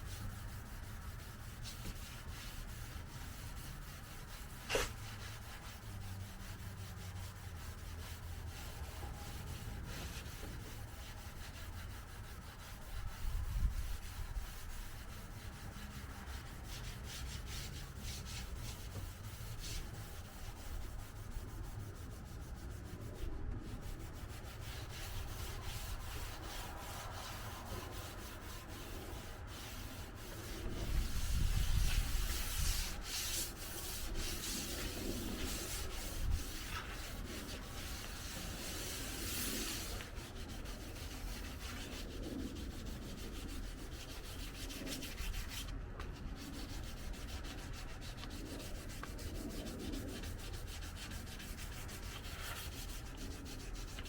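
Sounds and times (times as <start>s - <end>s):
sandpaper rubbing on car paint: 0.0s - 54.0s.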